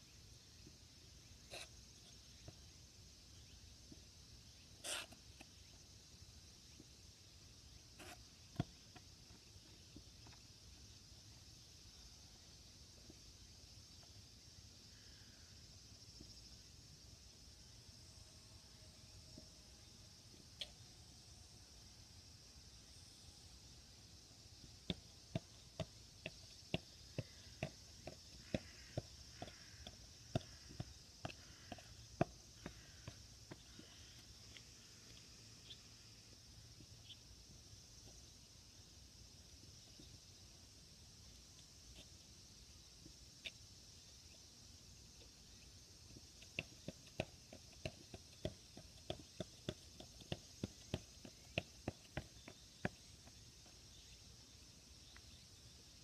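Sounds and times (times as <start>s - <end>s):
faint steady hiss: 0.0s - 56.0s.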